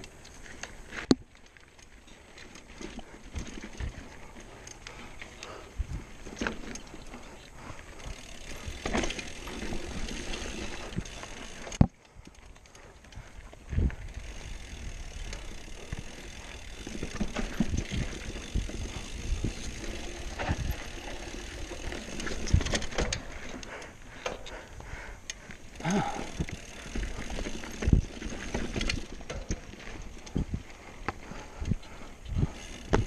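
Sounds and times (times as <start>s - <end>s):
bike knocking and rattling: 0.0s - 33.0s
bike tyres rumbling on dirt and stone: 0.0s - 33.0s.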